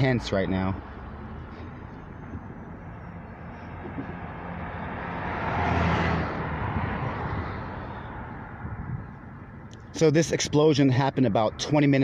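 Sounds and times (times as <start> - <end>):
vehicle passing: 0.0 - 10.0
traffic engine hum: 0.0 - 12.0.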